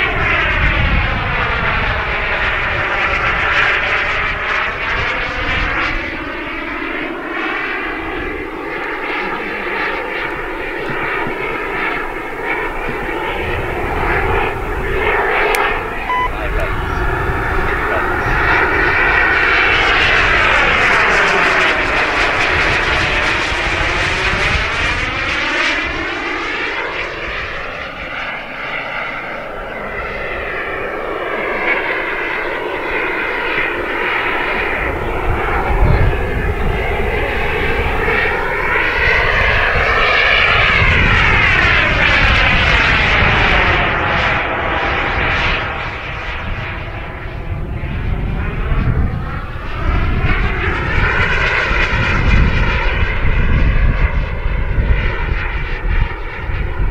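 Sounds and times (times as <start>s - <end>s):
model jet turbine whining: 0.0s - 56.9s.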